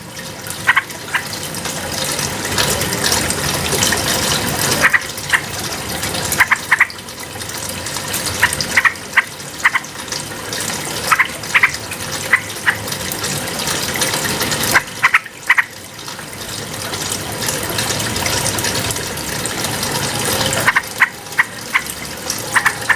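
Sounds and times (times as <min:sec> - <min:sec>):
running water: 0:00.0 - 0:22.9.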